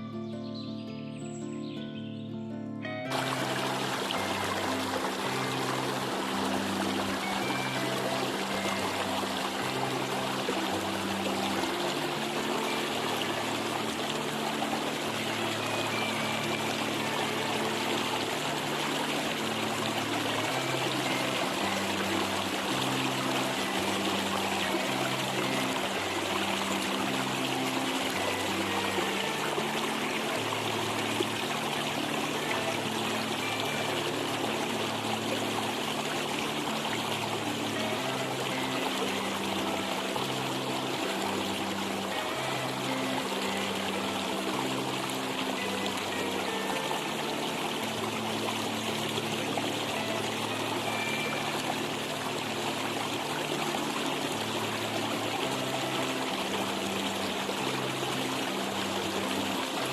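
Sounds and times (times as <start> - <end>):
soft relaxation music: 0.0 - 59.9
stream trickling: 0.0 - 59.9.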